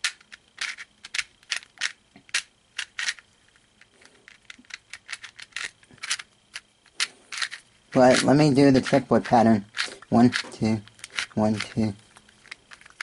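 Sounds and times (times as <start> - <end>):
puzzle cube clicking: 0.0 - 13.0.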